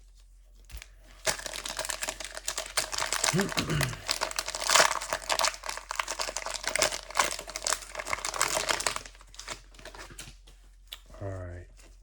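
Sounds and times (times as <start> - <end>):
plastic wrapper crinkling: 0.1 - 10.9.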